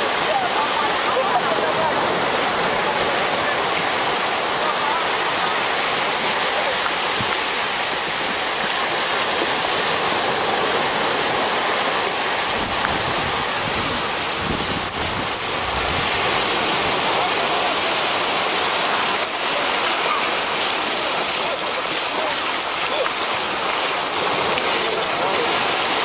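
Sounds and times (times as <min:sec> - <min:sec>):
faint voices: 0:00.0 - 0:26.0
waves washing up a sandy beach: 0:00.0 - 0:26.0.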